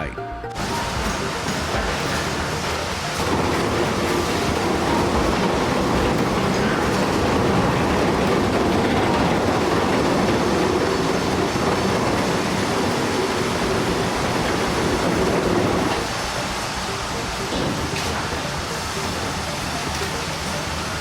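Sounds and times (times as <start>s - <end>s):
heavy truck engine rumble: 0.6s - 21.0s.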